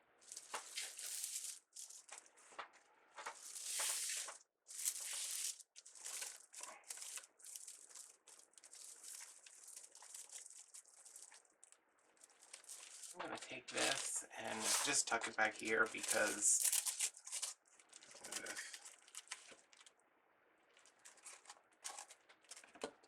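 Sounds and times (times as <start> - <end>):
ribbon crinkling and rustling: 0.2 - 20.0, 20.6 - 23.0.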